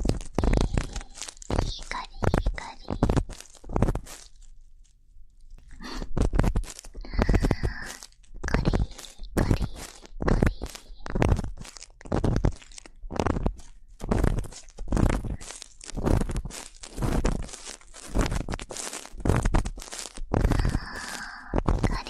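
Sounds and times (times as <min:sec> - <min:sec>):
ear-cleaning tool scraping microphone: 0:00.0 - 0:04.5, 0:05.7 - 0:22.0.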